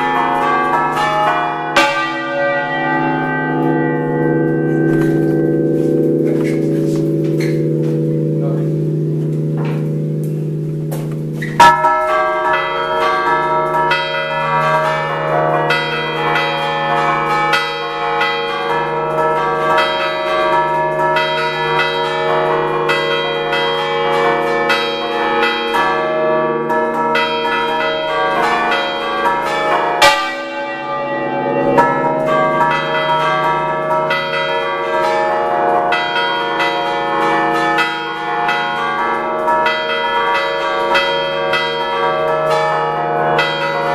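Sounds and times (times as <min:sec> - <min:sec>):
heavy bell stroke: 0:00.0 - 0:18.8, 0:19.8 - 0:43.9
bell hum: 0:00.0 - 0:19.0, 0:19.8 - 0:43.9
rhythmic bell clapper strikes: 0:00.0 - 0:43.9.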